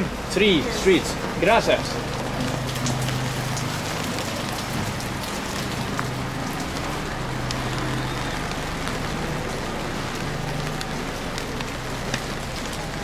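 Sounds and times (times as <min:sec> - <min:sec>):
rain on an umbrella: 0:00.0 - 0:13.0.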